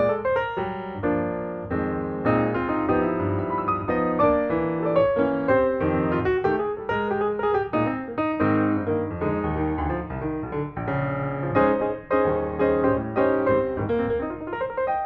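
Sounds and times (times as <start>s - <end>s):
instrumental piano music: 0.0s - 15.0s.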